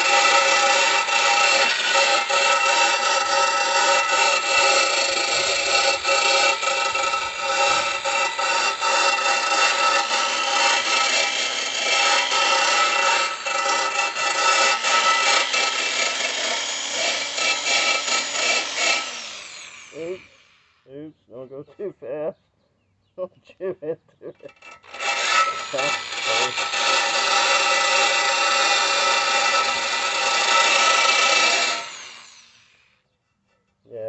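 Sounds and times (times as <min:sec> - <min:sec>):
wire brush grinding metal: 0:00.0 - 0:20.6, 0:24.4 - 0:33.8.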